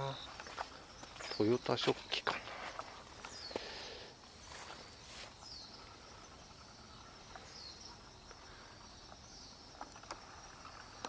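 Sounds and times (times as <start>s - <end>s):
faint insect hiss: 0.0s - 11.0s.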